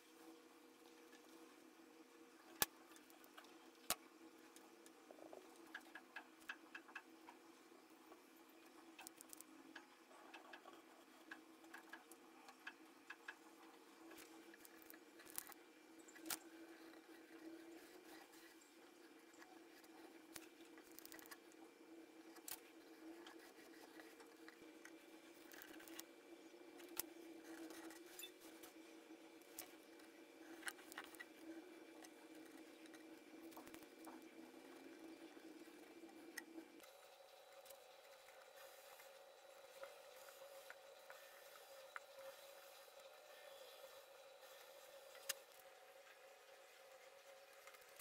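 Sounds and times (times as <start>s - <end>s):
faint steady hum: 0.0s - 48.0s
faint clicks and handling noise: 2.4s - 48.0s.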